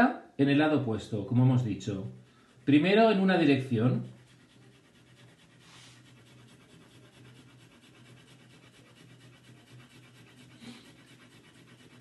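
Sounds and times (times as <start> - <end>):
pencil shading on paper: 1.8 - 12.0.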